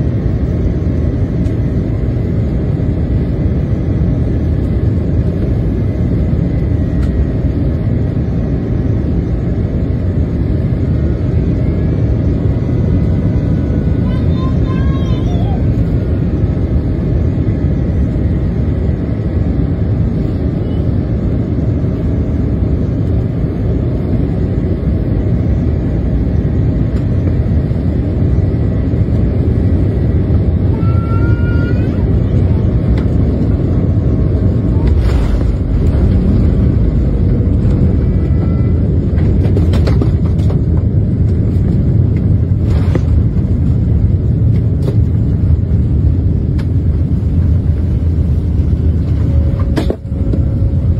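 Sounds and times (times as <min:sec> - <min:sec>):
airplane engines and rushing air: 0:00.0 - 0:50.9.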